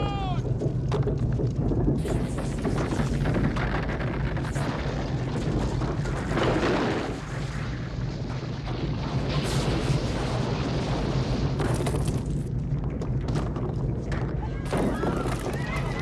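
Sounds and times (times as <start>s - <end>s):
heavy rumbling with booms: 0.0s - 16.0s.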